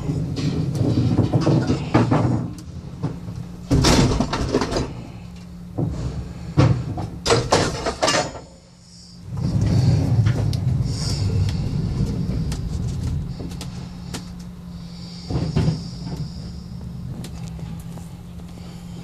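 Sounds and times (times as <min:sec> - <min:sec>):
junk banging and clattering: 0:00.0 - 0:08.6, 0:09.2 - 0:18.8
steady low hum: 0:00.0 - 0:19.0.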